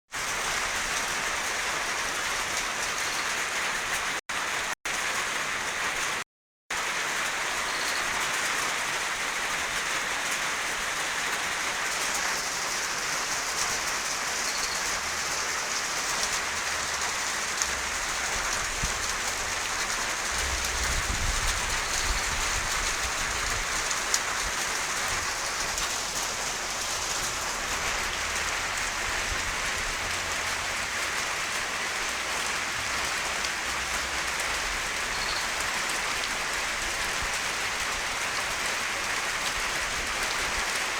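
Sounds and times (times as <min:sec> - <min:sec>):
heavy rain falling: 0:00.2 - 0:40.9.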